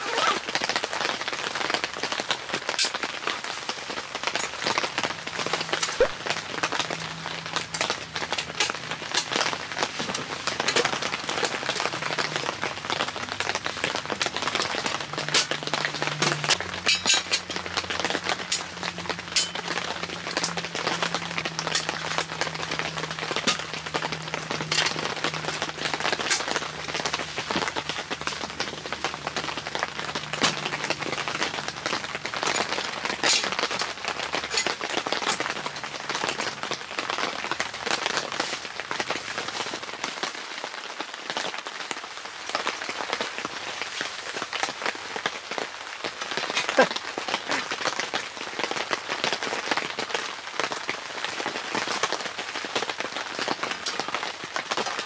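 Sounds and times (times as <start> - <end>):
rain on tent fabric: 0.0 - 55.0.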